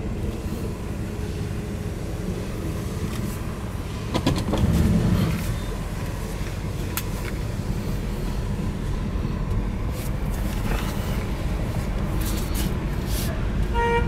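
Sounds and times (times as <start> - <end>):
car engine rumbling at low revs: 0.0 - 14.0.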